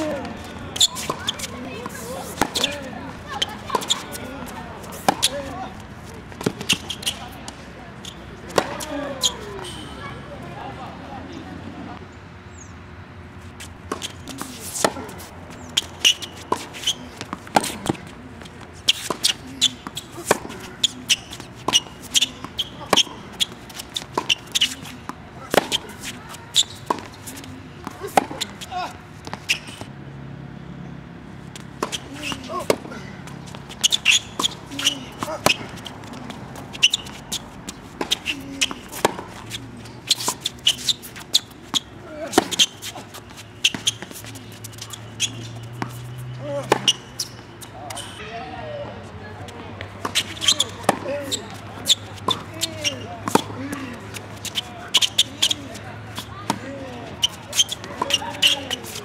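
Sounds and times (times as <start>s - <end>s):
tennis balls bouncing on court: 0.0s - 9.7s, 13.6s - 30.0s, 31.4s - 48.2s, 49.4s - 59.0s
tennis balls struck by rackets: 0.0s - 9.8s, 13.6s - 30.0s, 31.4s - 48.2s, 49.5s - 59.0s.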